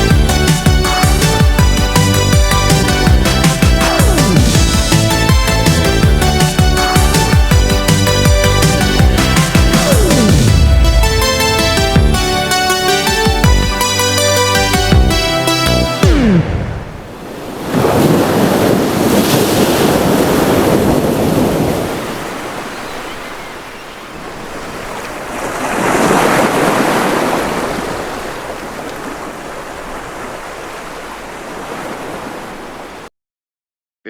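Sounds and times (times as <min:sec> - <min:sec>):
ocean waves washing in: 0:00.0 - 0:33.1.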